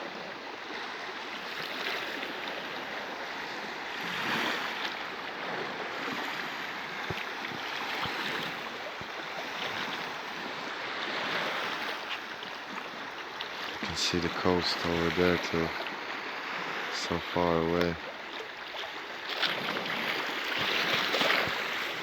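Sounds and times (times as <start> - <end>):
small waves washing on shore: 0.0 - 22.0.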